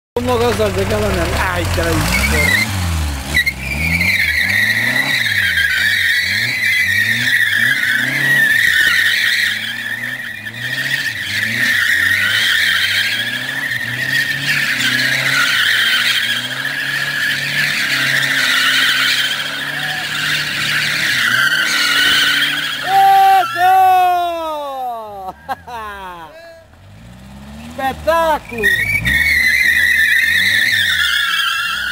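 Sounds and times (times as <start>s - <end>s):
tyres squealing: 0.2s - 26.9s, 27.6s - 31.9s
engine revving: 0.2s - 31.9s.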